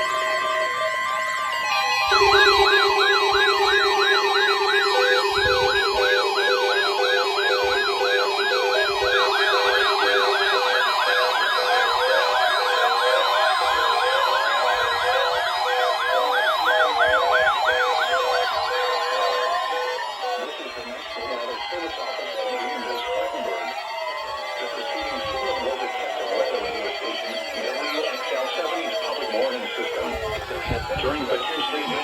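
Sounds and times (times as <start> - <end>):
electronic sirens yelping: 0.0 - 32.0.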